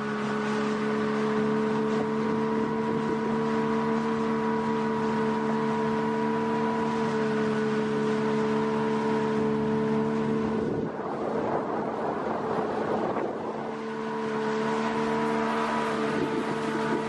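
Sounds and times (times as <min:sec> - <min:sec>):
outboard motor humming: 0:00.0 - 0:17.0
water rushing: 0:00.0 - 0:17.0
wind: 0:00.0 - 0:17.0.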